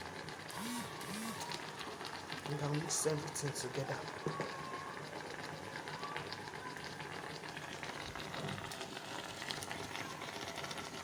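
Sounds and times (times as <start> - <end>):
tomato puree bubbling and sizzling: 0.0 - 11.0.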